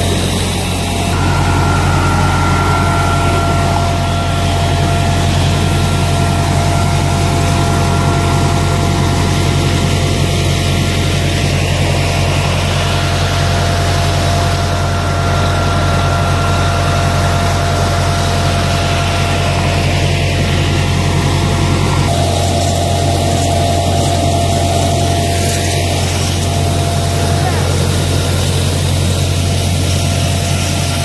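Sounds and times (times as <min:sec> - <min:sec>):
blower fan rushing air: 0:00.0 - 0:31.0
high whine: 0:00.0 - 0:31.0
tractor engine drone: 0:00.0 - 0:31.0.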